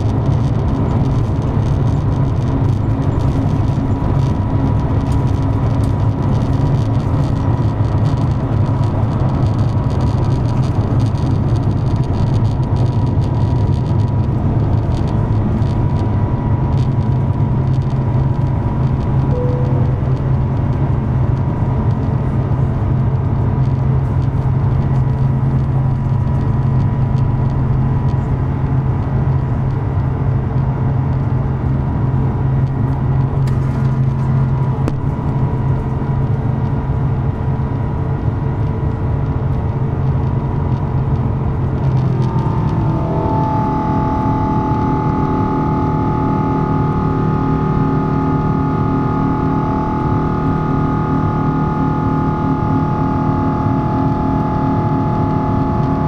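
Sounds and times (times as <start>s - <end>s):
jet engine deep rumble: 0.0s - 56.0s
thin engine whine: 0.0s - 56.0s.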